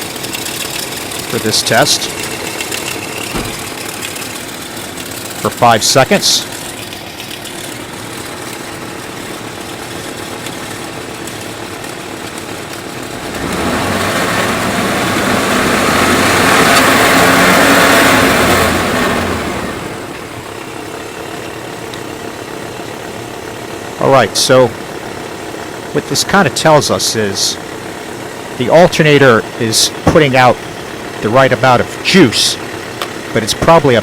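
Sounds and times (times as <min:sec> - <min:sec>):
alternator whine: 0:00.0 - 0:34.0
truck engine idling and revving: 0:00.0 - 0:34.0.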